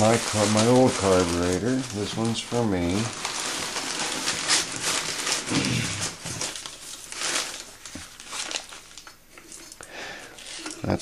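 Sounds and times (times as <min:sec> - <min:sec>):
newspaper rustling and crinkling: 0:00.0 - 0:09.8.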